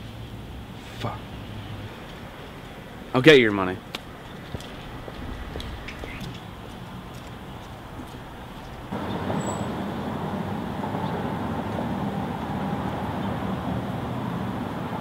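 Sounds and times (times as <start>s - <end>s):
city street ambience: 0.0s - 15.0s
vehicle engine hum: 0.0s - 15.0s.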